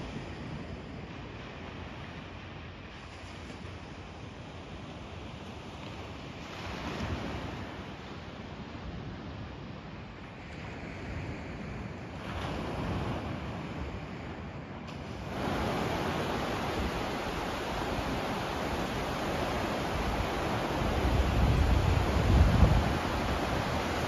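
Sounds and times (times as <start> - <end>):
sea surf washing on shore: 0.0 - 24.0
wind buffeting microphone: 0.0 - 24.0.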